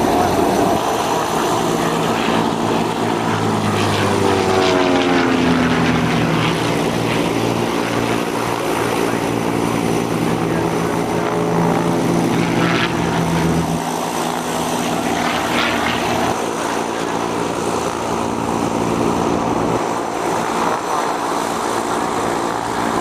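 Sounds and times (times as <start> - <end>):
propeller aircraft engine drone: 0.0 - 23.0.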